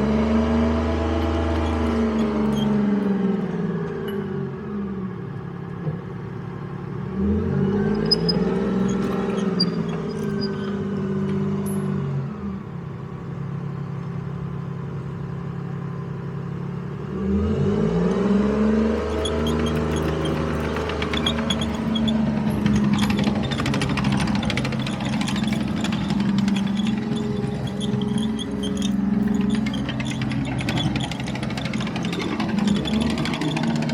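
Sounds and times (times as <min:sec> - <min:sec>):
armoured vehicle engine running: 0:00.0 - 0:33.9.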